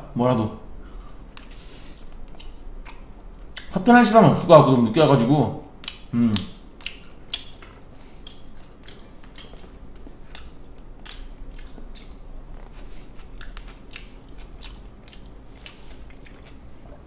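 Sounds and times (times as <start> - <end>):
person chewing food: 0.8 - 3.8, 5.8 - 17.0.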